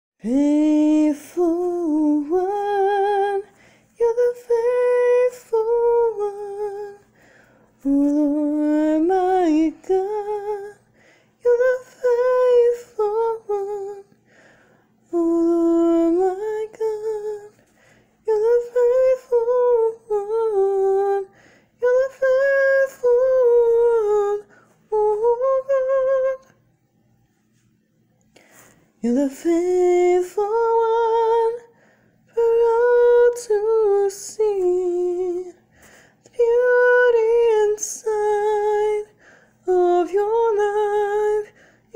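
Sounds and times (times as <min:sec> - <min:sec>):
woman singing unaccompanied: 0:00.2 - 0:14.2, 0:15.0 - 0:17.6, 0:18.2 - 0:26.6, 0:29.0 - 0:35.6, 0:36.2 - 0:41.9.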